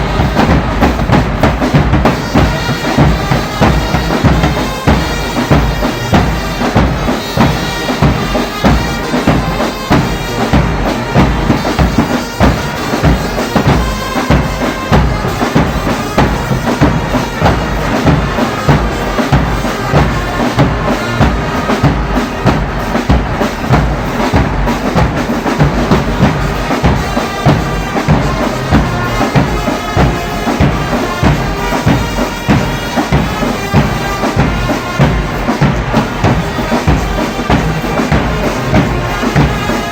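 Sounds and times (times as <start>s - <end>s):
brass band playing: 0.0s - 39.9s
steady drum beat: 0.0s - 39.9s.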